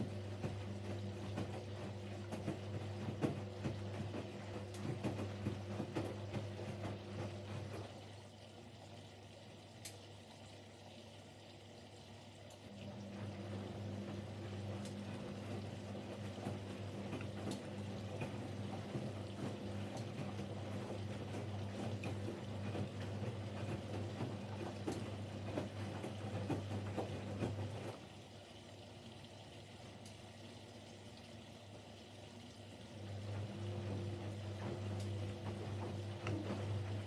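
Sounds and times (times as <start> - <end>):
water sloshing in drum: 0.0 - 8.4, 13.2 - 37.0
washing machine motor hum: 0.0 - 11.0, 12.1 - 37.0.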